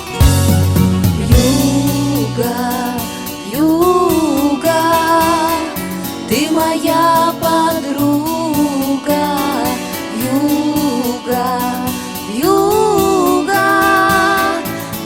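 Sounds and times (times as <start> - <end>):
song with vibrato melody: 0.0 - 7.1, 9.2 - 15.0
backing track with steady beat: 0.0 - 15.0.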